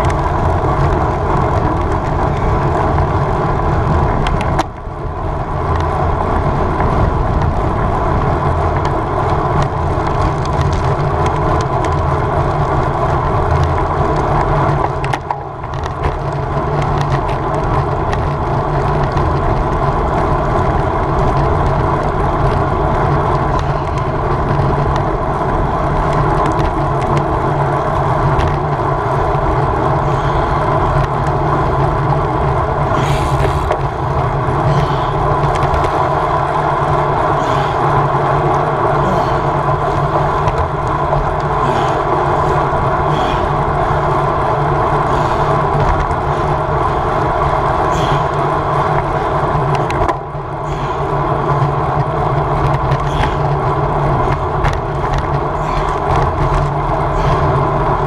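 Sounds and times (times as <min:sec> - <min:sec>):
bicycle road noise: 0:00.0 - 0:58.0
bike clicks and knocks: 0:00.0 - 0:58.0
wind: 0:00.0 - 0:58.0.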